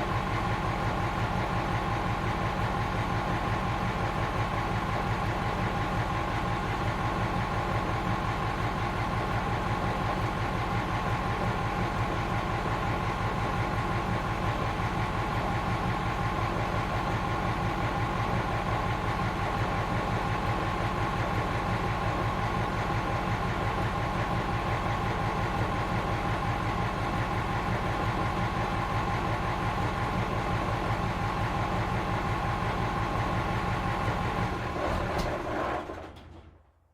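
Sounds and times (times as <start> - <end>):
fire engine idling: 0.0 - 34.8.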